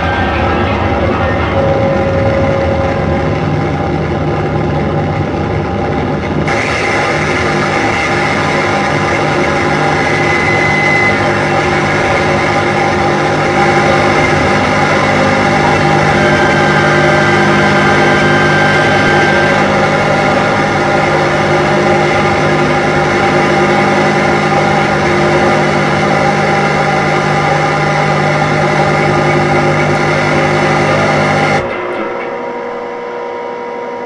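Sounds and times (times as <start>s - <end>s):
electronic noise drone: 0.0s - 34.0s.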